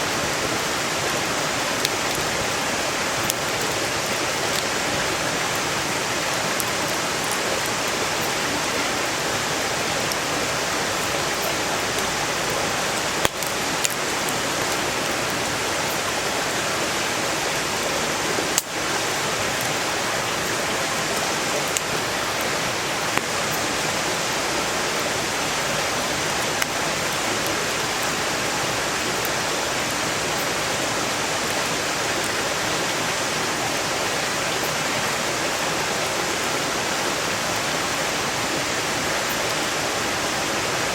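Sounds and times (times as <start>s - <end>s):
firewood crackling: 0.0s - 40.9s
stream rushing: 0.0s - 40.9s.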